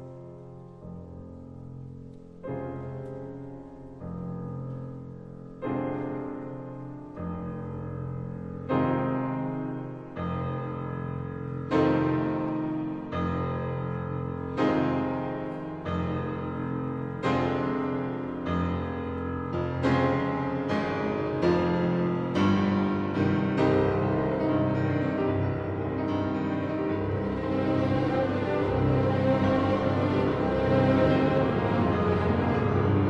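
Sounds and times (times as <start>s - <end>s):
slow piano chords: 0.0s - 33.0s.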